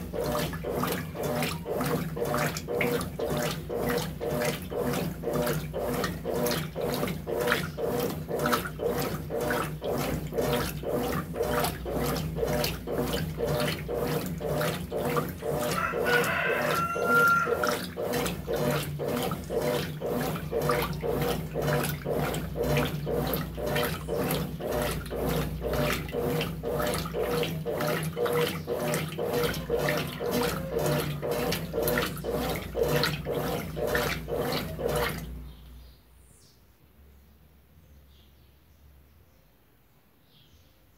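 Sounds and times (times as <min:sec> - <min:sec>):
washing machine motor hum: 0:00.0 - 0:35.8
washing machine swishing water: 0:00.0 - 0:35.9.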